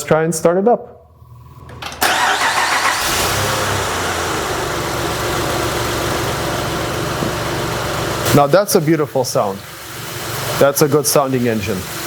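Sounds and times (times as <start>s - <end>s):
car engine idling: 1.2s - 12.0s.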